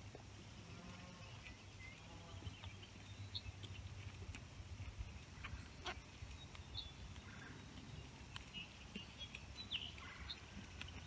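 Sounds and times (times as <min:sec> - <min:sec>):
birds chirping faintly: 0:00.0 - 0:11.0
sheep chewing grass: 0:00.0 - 0:11.0.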